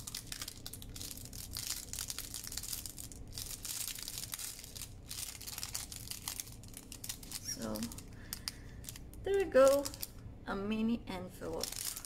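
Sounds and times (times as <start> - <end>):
paper baking cup crinkling: 0.0 - 10.2, 11.4 - 12.0.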